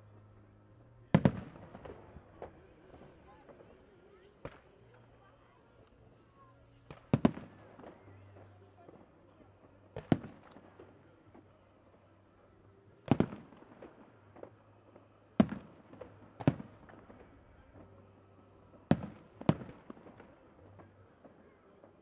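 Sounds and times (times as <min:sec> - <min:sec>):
faint fireworks pops: 0:00.0 - 0:22.0
fireworks bangs: 0:01.1 - 0:05.3, 0:06.8 - 0:12.2, 0:13.0 - 0:22.0.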